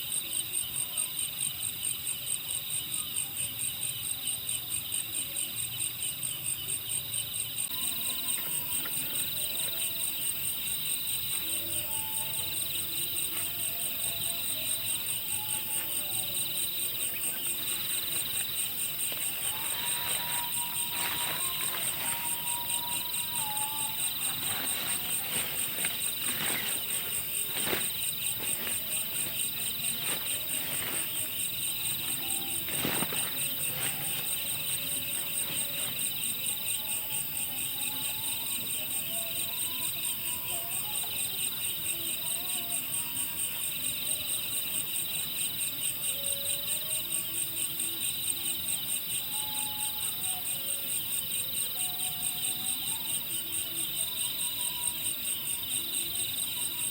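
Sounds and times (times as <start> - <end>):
crickets chirping: 0.0 - 56.9
slower insect call: 0.0 - 56.9.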